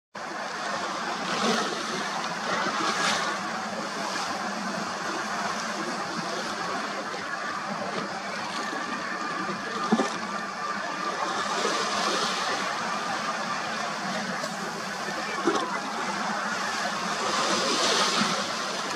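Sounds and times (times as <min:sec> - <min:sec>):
sea water lapping: 0:00.2 - 0:18.9.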